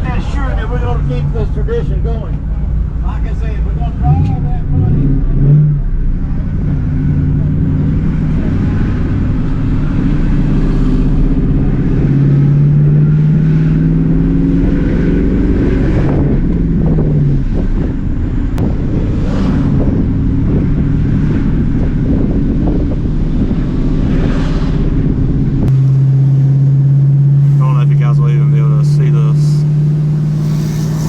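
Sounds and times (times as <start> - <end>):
car engine running at low revs: 0.0 - 31.0
passing engine: 0.0 - 31.0.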